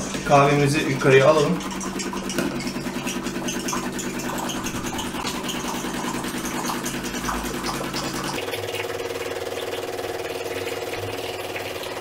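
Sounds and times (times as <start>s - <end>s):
espresso machine pump buzzing: 0.0s - 12.0s.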